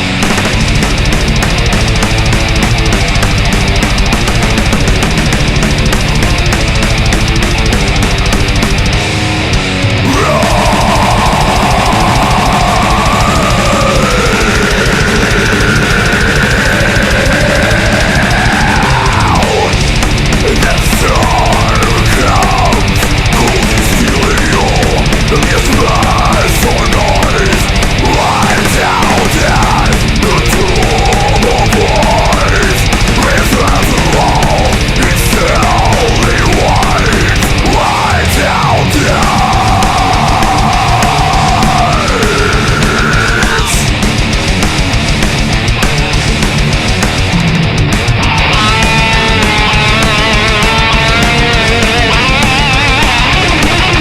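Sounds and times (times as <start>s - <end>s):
death metal music: 0.0s - 54.0s.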